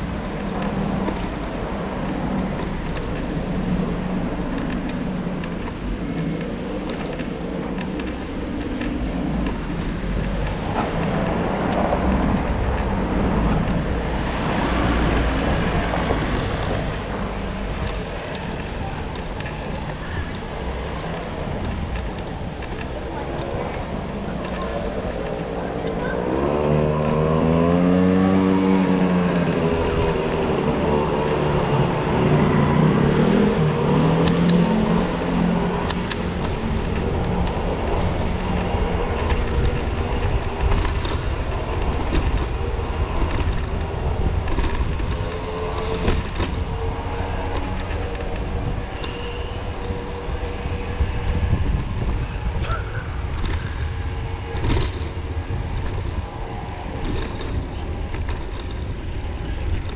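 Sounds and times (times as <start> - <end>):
wind on microphone: 3.3 - 59.9.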